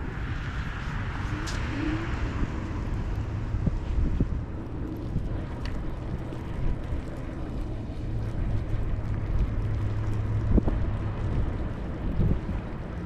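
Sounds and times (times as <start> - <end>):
wind and tyre noise: 0.0 - 13.0.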